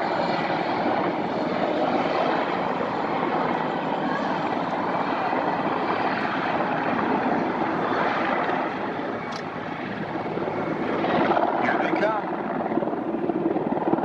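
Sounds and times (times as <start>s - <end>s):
helicopter rotors and turbines: 0.0s - 14.0s.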